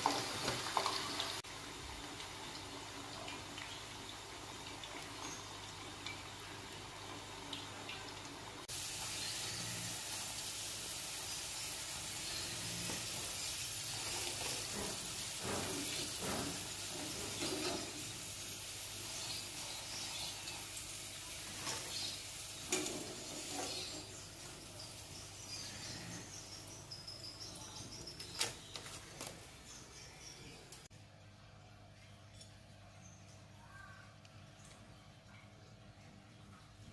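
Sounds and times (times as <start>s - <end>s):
food deep-frying in hot oil: 0.0s - 30.9s.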